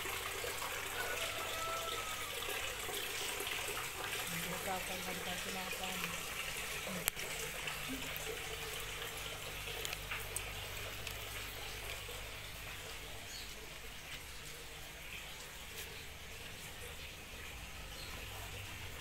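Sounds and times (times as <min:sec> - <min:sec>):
water trickling into a pond: 0:00.0 - 0:19.0.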